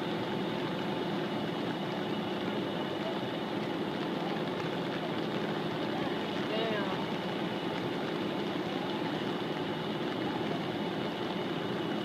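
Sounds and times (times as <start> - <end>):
engine running steadily: 0.0 - 12.0
faint steady hum: 0.0 - 12.0.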